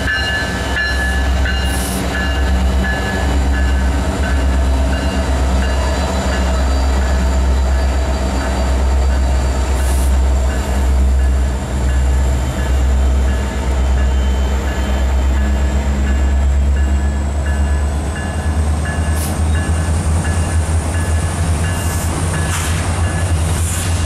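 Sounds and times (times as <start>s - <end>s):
crossing bell dinging: 0.0s - 23.5s
diesel locomotive engine rumble: 0.0s - 24.0s
train wheel noise: 0.0s - 24.0s.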